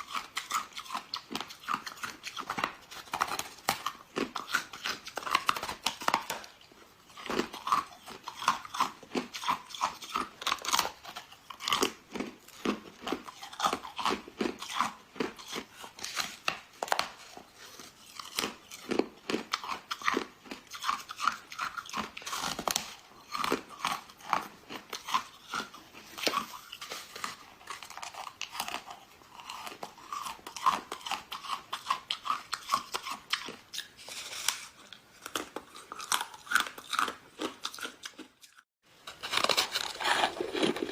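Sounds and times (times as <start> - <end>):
crunching and chewing frozen snow: 0.0 - 40.9.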